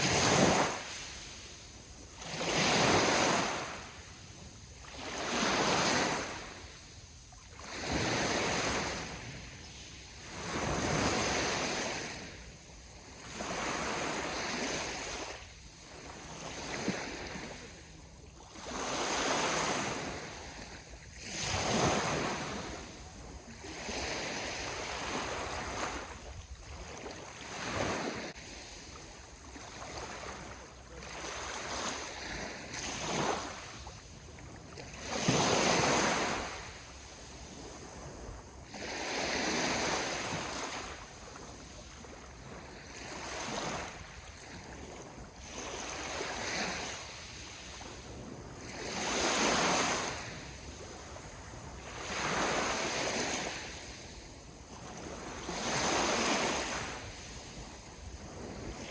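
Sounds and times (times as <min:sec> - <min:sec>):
ocean waves breaking on shore: 0:00.0 - 0:58.9.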